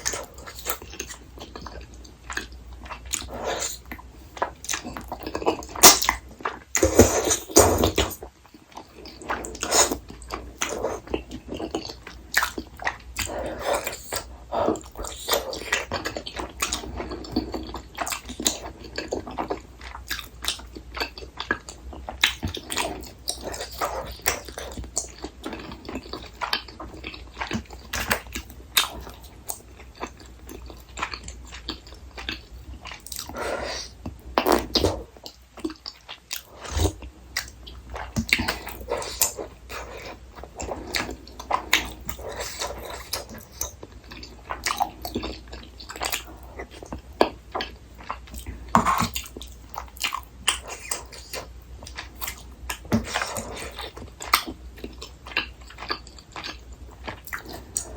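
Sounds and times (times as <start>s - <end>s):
chewing and biting: 0.0s - 57.9s.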